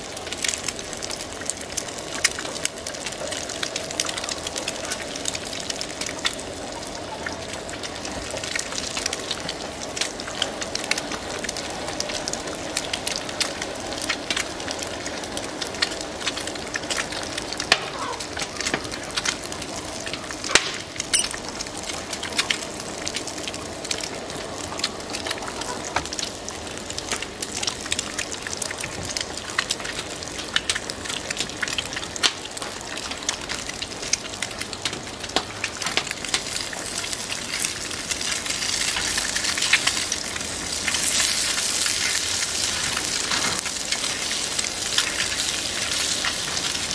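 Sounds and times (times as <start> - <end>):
egg sizzling in a frying pan: 0.0 - 46.9
wood fire crackling and popping: 0.0 - 46.9.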